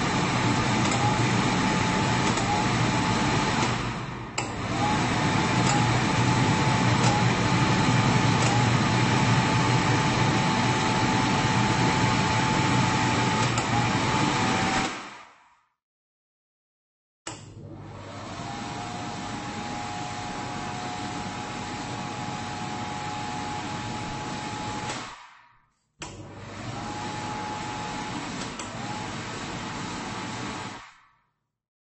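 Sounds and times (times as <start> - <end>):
hand dryer blowing air: 0.0 - 15.4, 17.5 - 25.4, 26.0 - 31.0.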